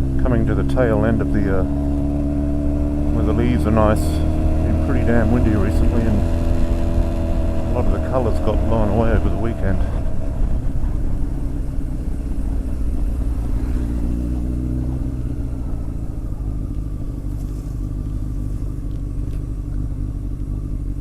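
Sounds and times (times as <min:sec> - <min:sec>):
motorcycle engine drone: 0:00.0 - 0:21.0.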